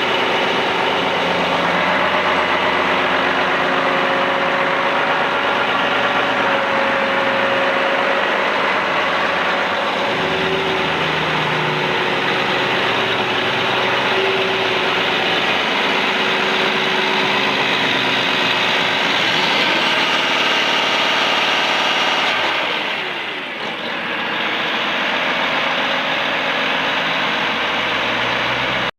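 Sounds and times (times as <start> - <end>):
diesel tractor engine idling: 0.0 - 28.9.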